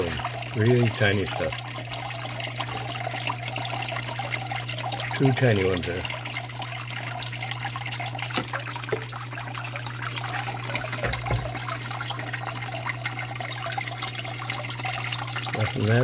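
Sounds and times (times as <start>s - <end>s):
water trickling over table: 0.0s - 16.0s.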